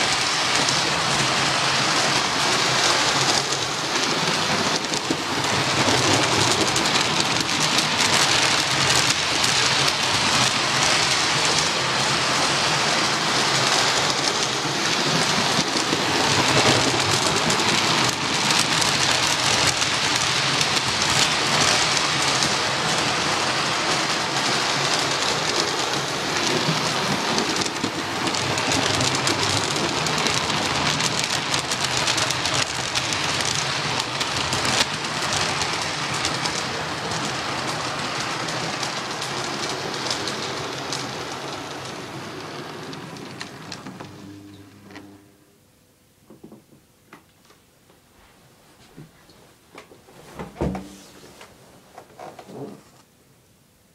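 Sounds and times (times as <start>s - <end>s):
model train wheels on rails: 0.0s - 45.3s.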